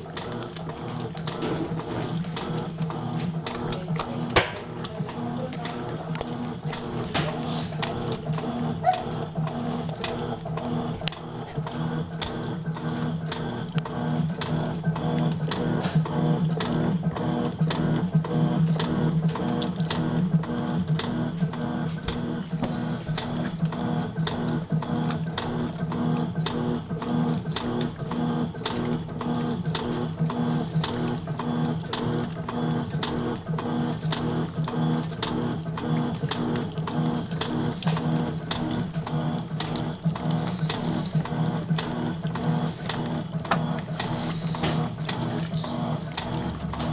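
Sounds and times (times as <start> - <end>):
washing machine motor humming: 0.0 - 46.9.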